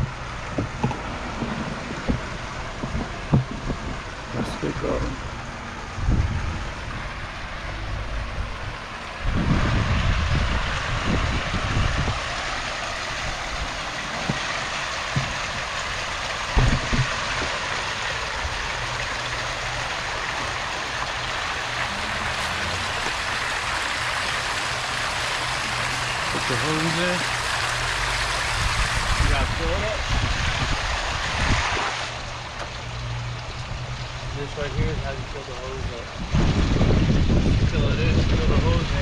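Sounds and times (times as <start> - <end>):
low bumps: 0.0 - 12.2, 12.9 - 32.8
pool pump motor hum: 0.0 - 39.0
water rushing: 0.0 - 39.0.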